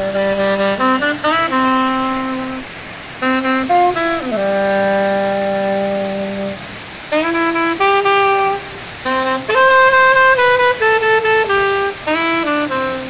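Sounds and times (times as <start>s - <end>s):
solo saxophone melody: 0.0s - 13.0s.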